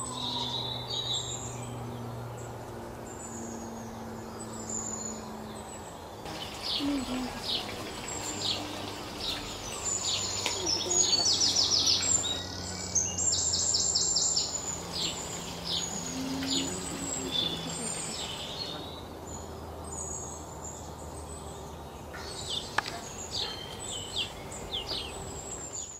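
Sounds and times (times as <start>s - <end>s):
small songbirds chirping: 0.0s - 25.9s.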